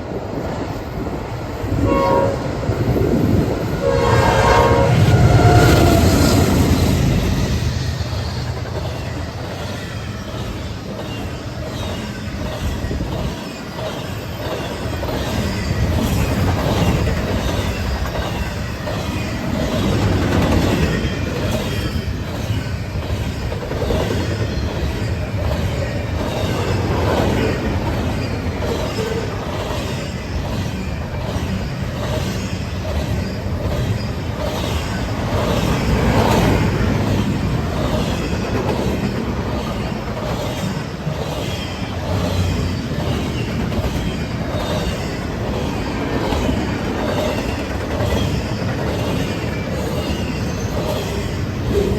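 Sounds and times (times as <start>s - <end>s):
freight train rumble: 0.0s - 51.9s
wheels clacking over rail joints: 5.0s - 51.9s.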